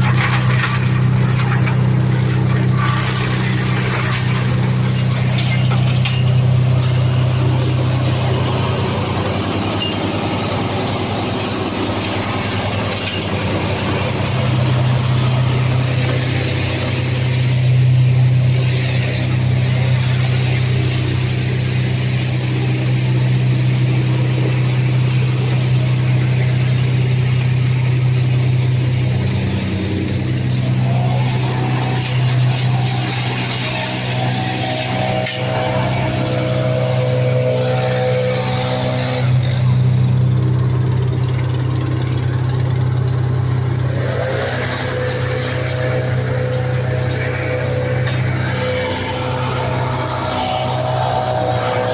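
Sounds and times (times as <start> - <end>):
wood chipper engine droning: 0.0 - 51.9.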